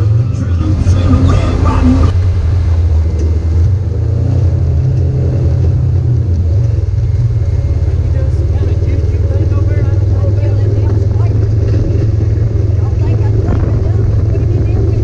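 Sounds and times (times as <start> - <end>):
utility vehicle engine droning: 0.0 - 15.0.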